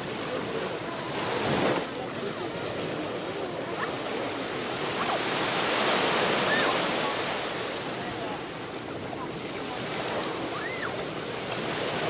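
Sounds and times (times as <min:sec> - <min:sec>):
waves washing onto shore: 0:00.0 - 0:12.0.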